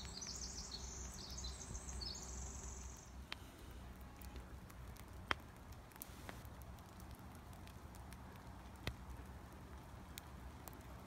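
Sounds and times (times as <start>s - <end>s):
rain drips tapping: 0.0s - 2.2s, 3.3s - 11.0s.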